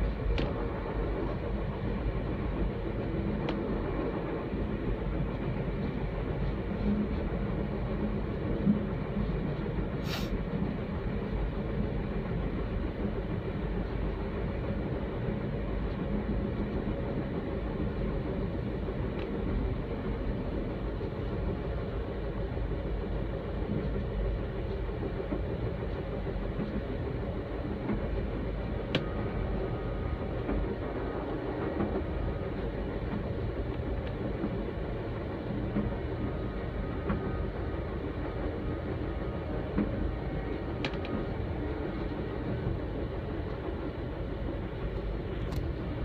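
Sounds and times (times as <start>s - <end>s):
train rumble and rail noise: 0.0s - 46.0s.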